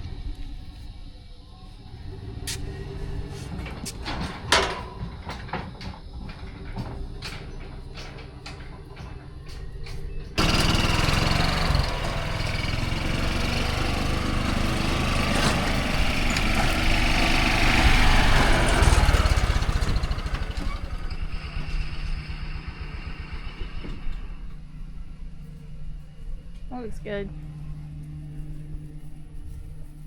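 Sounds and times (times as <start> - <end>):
engine-driven machine rumbling: 0.0 - 30.0.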